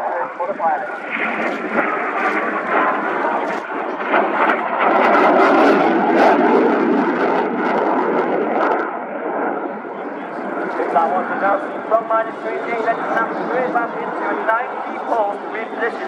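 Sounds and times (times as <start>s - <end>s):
jet engines in afterburner: 0.0s - 16.0s.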